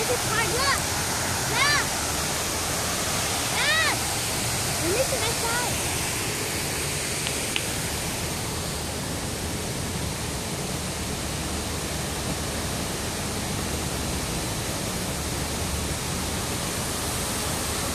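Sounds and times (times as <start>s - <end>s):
fountain water splashing: 0.0s - 17.9s.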